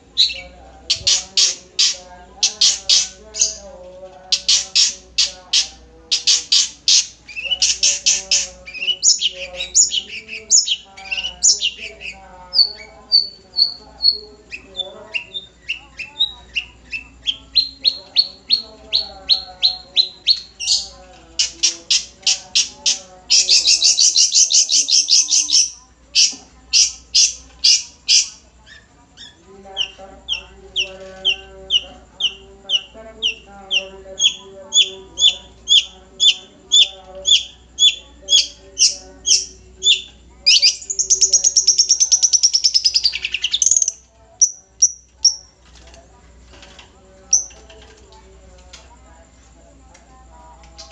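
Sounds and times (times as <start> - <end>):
bird singing: 0.0 - 45.9, 46.6 - 48.8, 50.6 - 50.9.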